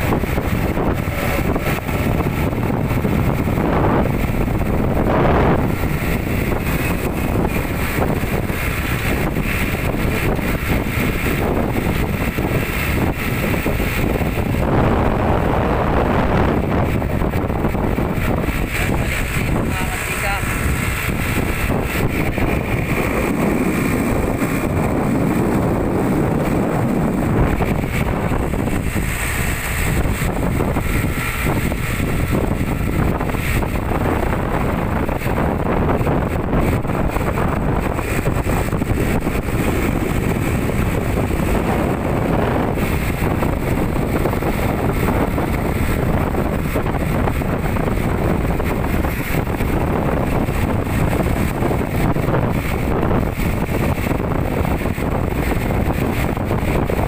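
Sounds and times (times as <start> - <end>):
moving truck rumble: 0.0 - 57.0
wind buffeting microphone: 0.0 - 57.0.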